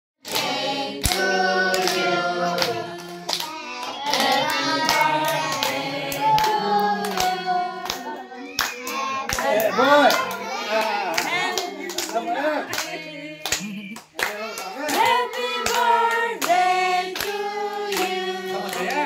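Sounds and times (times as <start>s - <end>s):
group singing together: 0.2s - 19.0s
hands clapping along: 0.3s - 19.0s.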